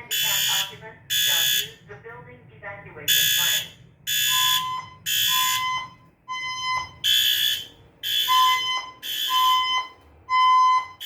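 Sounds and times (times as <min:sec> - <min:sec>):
fire alarm horn pulses: 0:00.0 - 0:01.9, 0:03.1 - 0:11.0.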